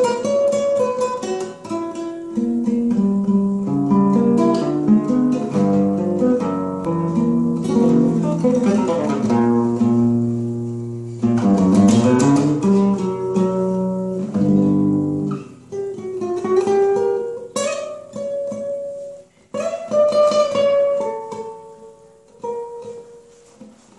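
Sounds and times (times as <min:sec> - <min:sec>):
nylon-string guitar playing: 0:00.0 - 0:23.9.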